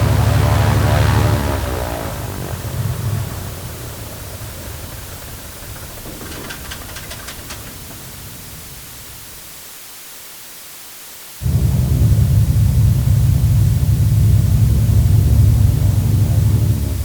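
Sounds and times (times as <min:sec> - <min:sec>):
aircraft engine rumble: 0:00.0 - 0:09.7, 0:11.4 - 0:17.0
noisy hiss: 0:00.0 - 0:17.0.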